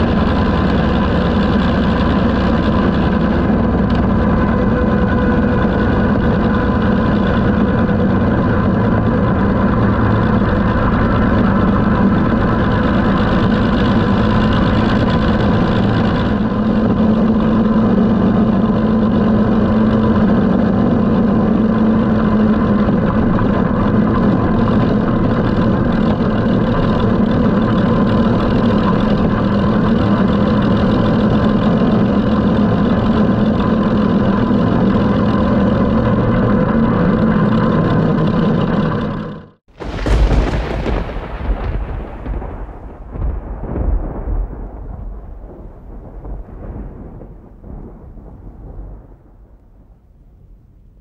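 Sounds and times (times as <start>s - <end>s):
thunderclap rumbling: 0.0s - 38.1s, 39.7s - 50.9s
car engine running: 0.0s - 41.2s.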